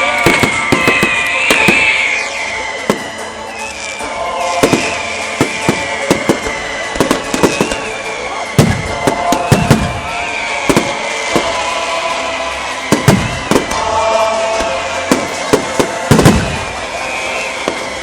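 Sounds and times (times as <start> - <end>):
fireworks bangs and crackles: 0.0 - 18.0
high wavering whistle: 0.0 - 18.0.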